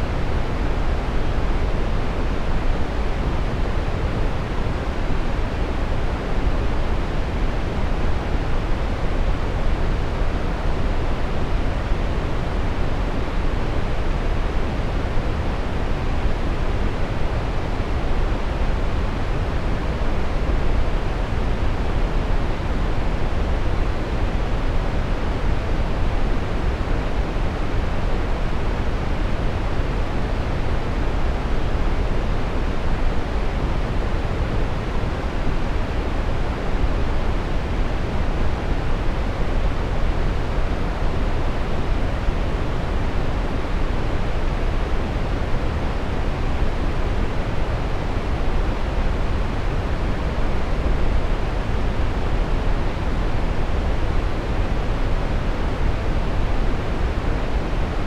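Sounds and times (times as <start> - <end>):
brown noise rushing hiss: 0.0 - 58.0.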